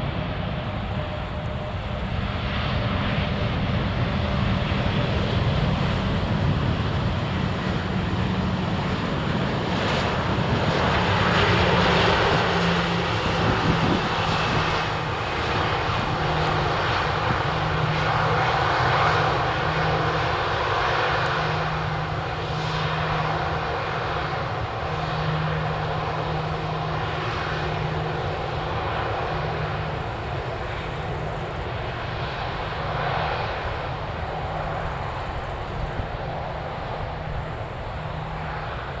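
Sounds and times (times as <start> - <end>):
jet engine roar: 0.0 - 39.0.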